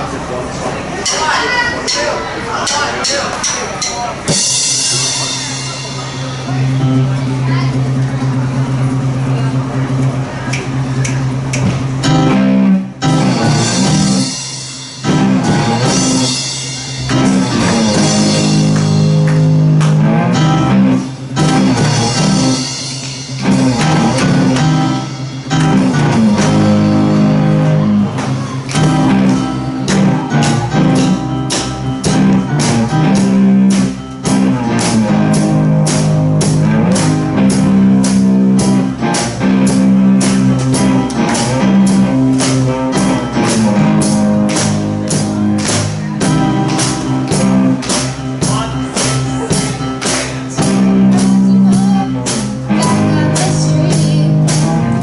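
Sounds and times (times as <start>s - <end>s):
drum kit beat: 1.0s - 55.0s
live rock band playing: 1.0s - 55.0s.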